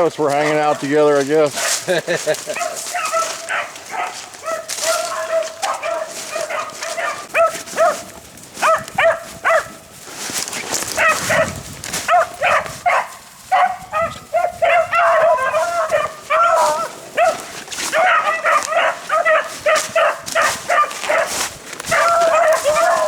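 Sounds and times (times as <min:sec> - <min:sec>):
dogs baying and barking: 0:00.0 - 0:23.0.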